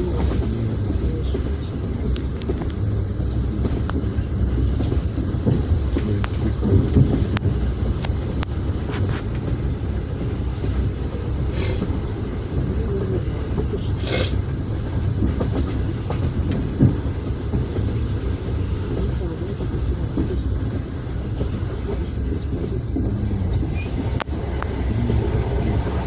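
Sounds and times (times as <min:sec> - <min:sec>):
train carriage rumble: 0:00.0 - 0:26.0
train rushing: 0:00.0 - 0:26.0
wheels clicking on rails: 0:00.0 - 0:26.0.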